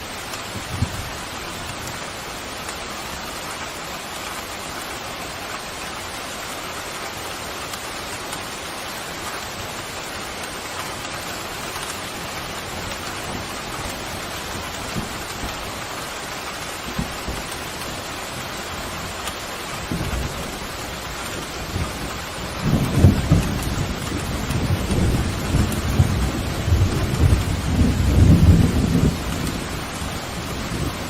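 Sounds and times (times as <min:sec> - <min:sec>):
pouring rain: 0:00.0 - 0:31.0.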